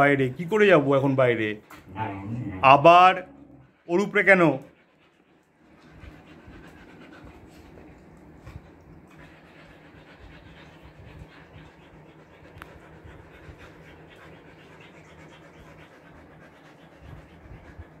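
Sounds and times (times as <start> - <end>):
dog panting: 0.0 - 18.0.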